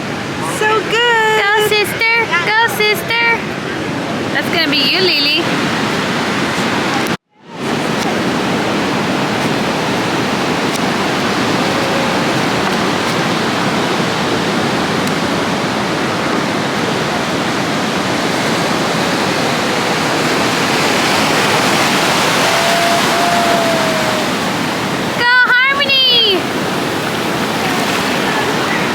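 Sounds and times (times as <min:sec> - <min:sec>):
ocean surf on beach: 0:00.0 - 0:28.9.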